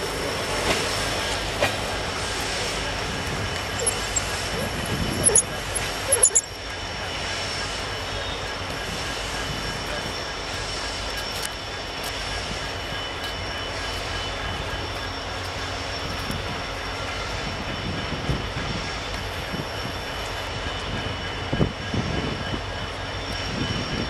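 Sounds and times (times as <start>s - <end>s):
train rumble and hiss: 0.0s - 24.0s.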